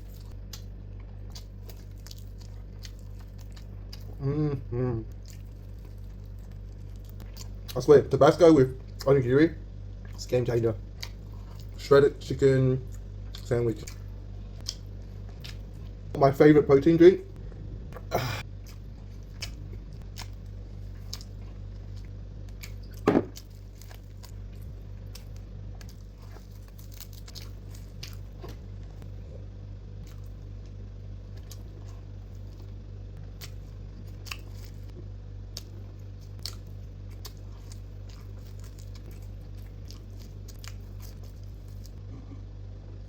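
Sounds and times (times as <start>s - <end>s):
chewing: 0.0s - 4.4s, 5.1s - 7.9s, 9.9s - 11.8s, 12.8s - 16.2s, 17.4s - 43.0s
low hum: 0.0s - 43.0s.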